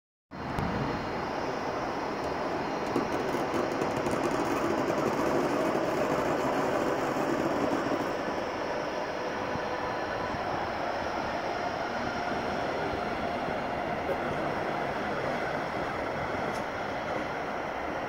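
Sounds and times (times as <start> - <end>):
faint steady whine: 0.4 - 18.0
moving train rumble: 0.4 - 18.0.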